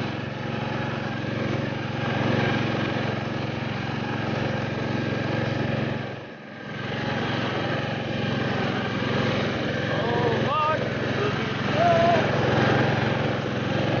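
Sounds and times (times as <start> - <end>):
lawn tractor engine running: 0.0 - 14.0.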